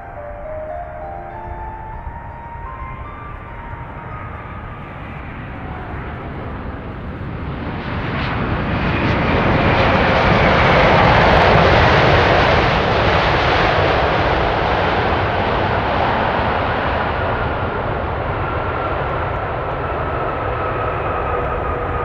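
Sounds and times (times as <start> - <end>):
jet engine roar on landing: 2.8 - 22.0.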